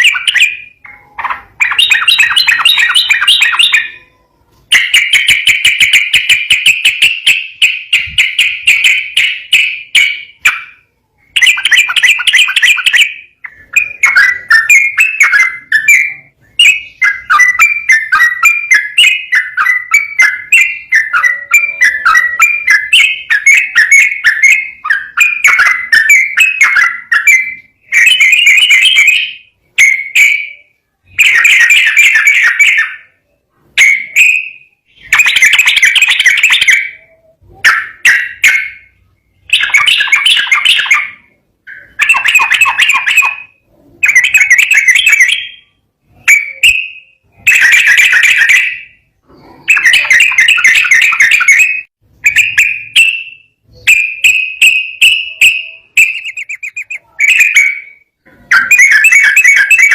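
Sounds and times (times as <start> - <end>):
bird singing warbled notes: 0.0 - 59.9.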